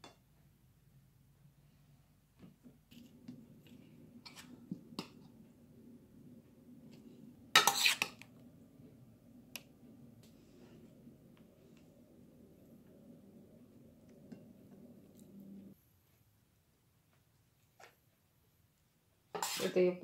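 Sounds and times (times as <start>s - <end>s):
faint steady hum: 0.0s - 19.1s.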